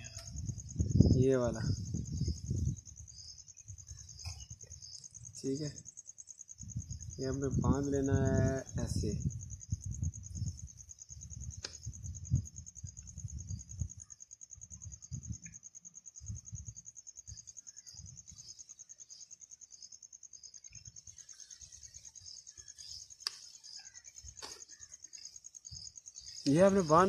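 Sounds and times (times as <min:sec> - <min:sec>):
insect trilling: 0:00.0 - 0:27.0.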